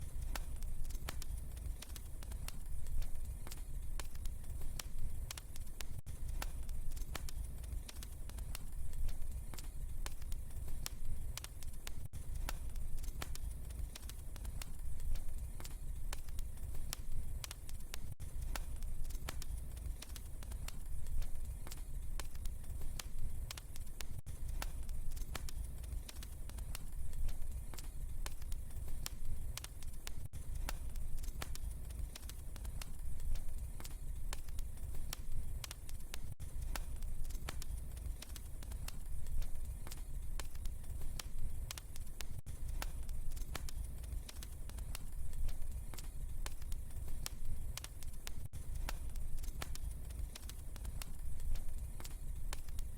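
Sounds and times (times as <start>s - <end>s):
low rumble of flames: 0.0s - 52.9s
wood fire crackling and popping: 0.0s - 52.9s.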